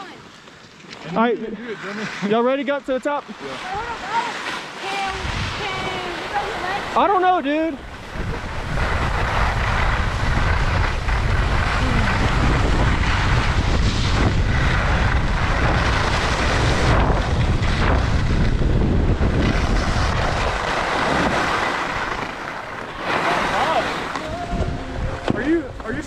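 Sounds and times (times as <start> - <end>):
snowboard scraping on snow: 1.0 - 26.0
wind buffeting microphone: 3.6 - 22.4, 23.0 - 26.0.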